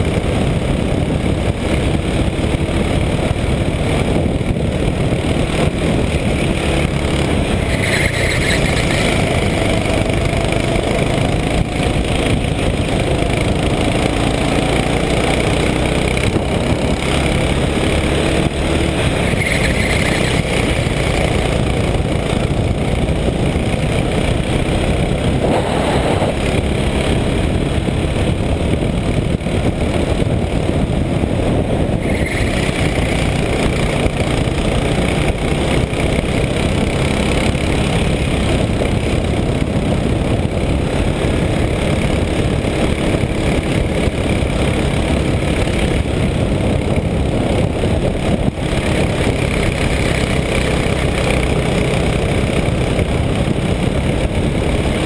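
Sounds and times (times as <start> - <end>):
go-kart engine at speed: 0.0 - 55.0
wind rush on microphone: 0.0 - 55.0.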